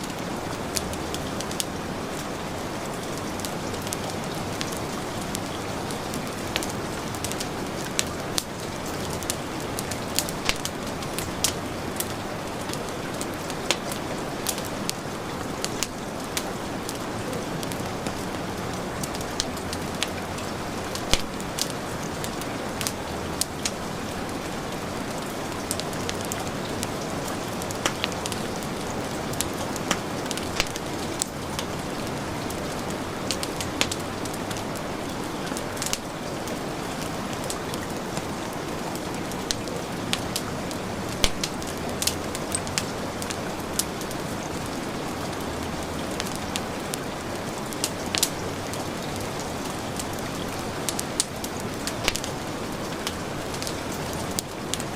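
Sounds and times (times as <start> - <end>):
heavy rain falling: 0.0 - 54.9
wood fire crackling: 0.0 - 54.9.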